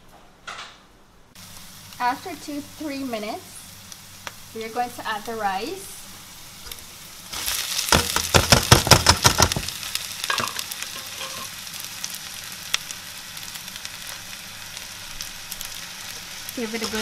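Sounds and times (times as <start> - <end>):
rice sizzling in hot oil: 1.4 - 17.0.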